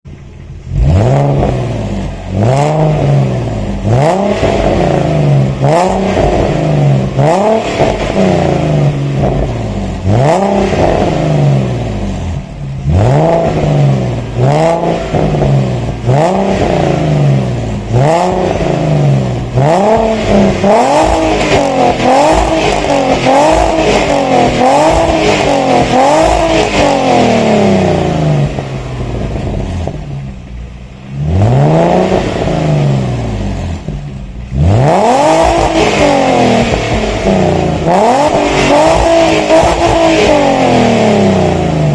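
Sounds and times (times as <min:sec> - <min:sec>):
car engine revving in blips: 0:00.1 - 0:41.9.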